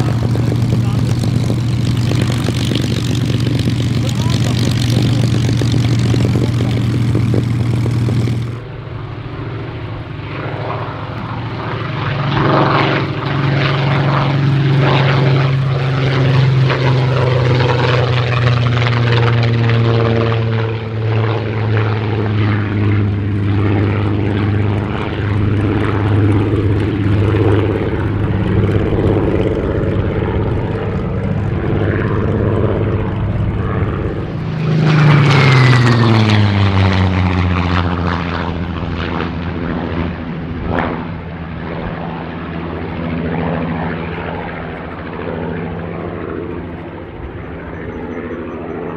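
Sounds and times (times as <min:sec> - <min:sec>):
aircraft droning in flight: 0:00.0 - 0:48.9
aircraft engine at high power: 0:00.0 - 0:48.9
propeller noise: 0:00.0 - 0:48.9.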